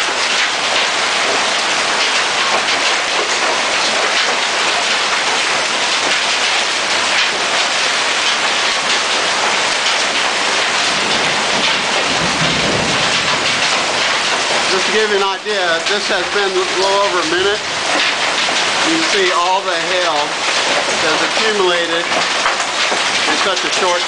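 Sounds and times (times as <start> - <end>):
hailstones pelting down: 0.0 - 24.0.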